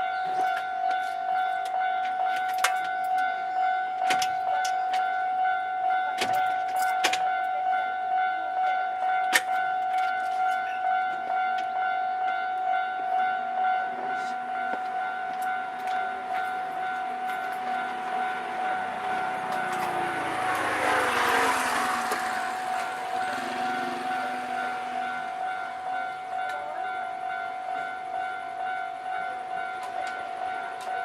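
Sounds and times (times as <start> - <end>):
level crossing alarm clanging: 0.0 - 31.0.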